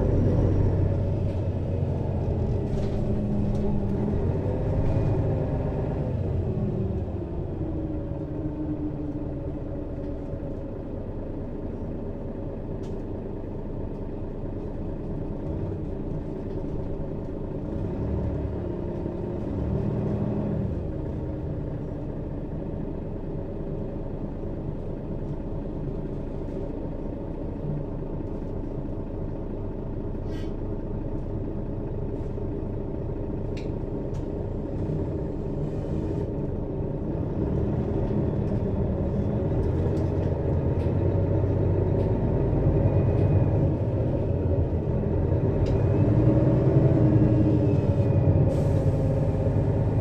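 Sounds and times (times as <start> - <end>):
bus engine rumbling: 0.0 - 50.0.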